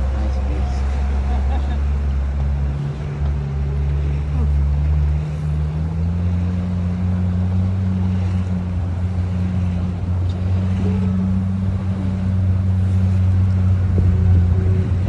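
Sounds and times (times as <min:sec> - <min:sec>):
small boat motor running: 0:00.0 - 0:15.0
water rushing past hull: 0:00.0 - 0:15.0.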